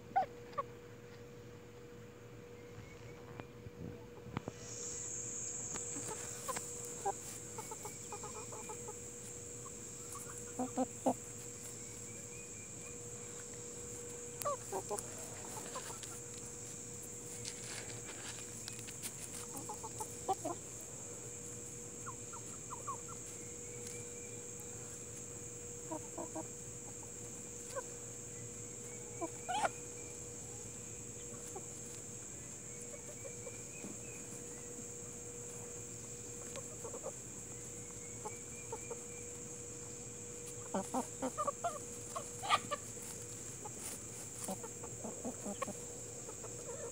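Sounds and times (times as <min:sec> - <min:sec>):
hens clucking softly: 0:00.0 - 0:01.2, 0:05.6 - 0:46.9
steady high hiss: 0:00.0 - 0:46.9.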